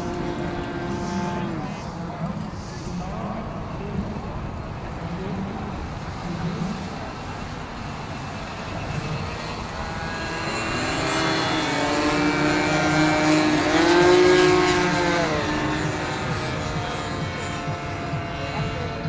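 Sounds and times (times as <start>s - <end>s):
model airplane engines buzzing: 0.0s - 19.0s.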